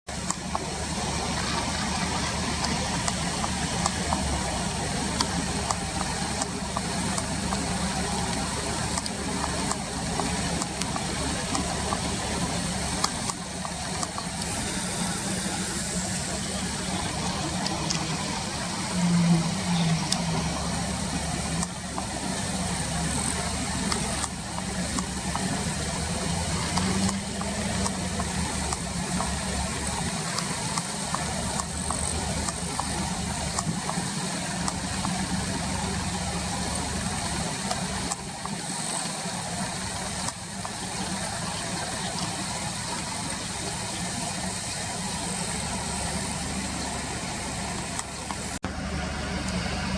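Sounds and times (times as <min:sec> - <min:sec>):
low engine hum: 0:00.1 - 0:49.9
noisy background: 0:00.1 - 0:49.9.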